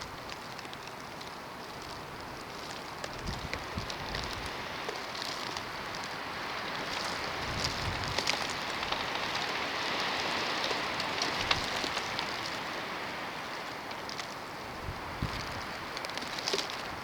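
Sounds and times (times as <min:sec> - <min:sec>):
ice grains ticking on surfaces: 0:00.0 - 0:17.0.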